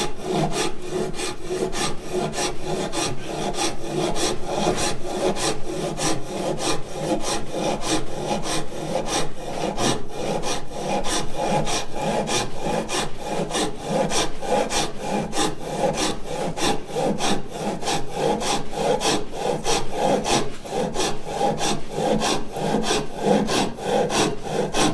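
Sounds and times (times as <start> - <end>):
hand saw cutting timber: 0.0 - 24.9.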